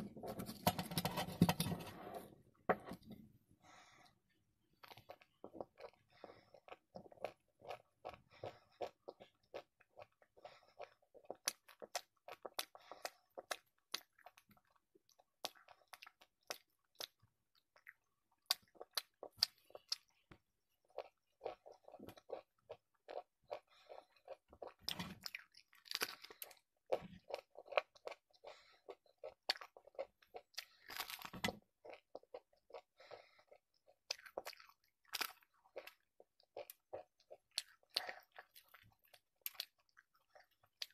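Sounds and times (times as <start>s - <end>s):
person chewing crunchy bread: 4.7s - 40.9s.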